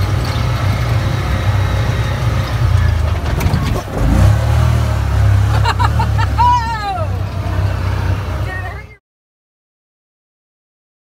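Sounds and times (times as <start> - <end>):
off-road vehicle engine under throttle: 0.0 - 9.0.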